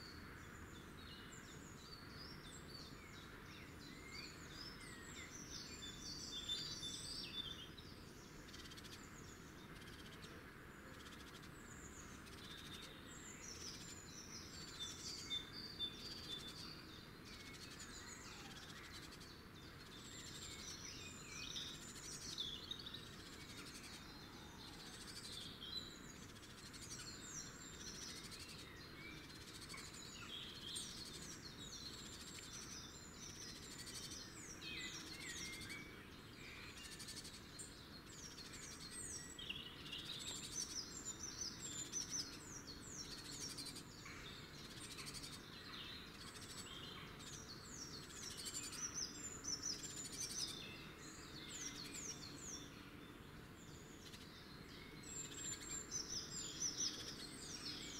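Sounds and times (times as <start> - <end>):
songbirds chirping: 0.0 - 57.9
steady background hiss: 0.0 - 57.9.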